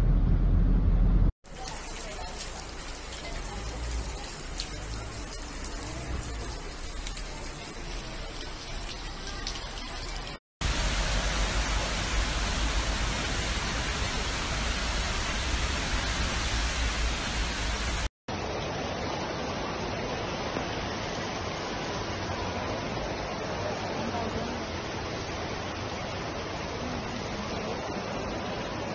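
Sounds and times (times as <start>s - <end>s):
floodwater rushing: 1.5s - 28.9s.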